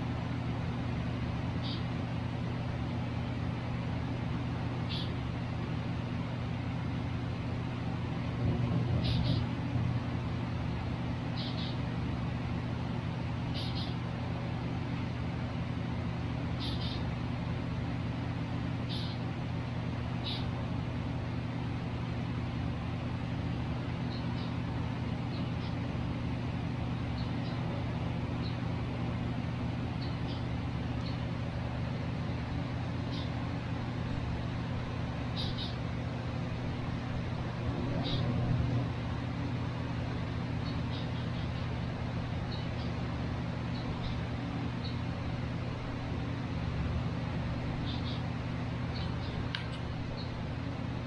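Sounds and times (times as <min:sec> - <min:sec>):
low machine hum: 0:00.0 - 0:51.0
pet birds chirping: 0:01.4 - 0:07.0, 0:08.8 - 0:20.8, 0:22.8 - 0:51.0.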